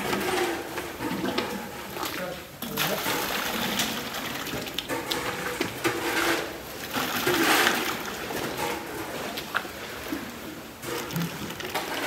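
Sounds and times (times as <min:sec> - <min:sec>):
wet slurry sloshing and gushing: 0:00.0 - 0:12.0.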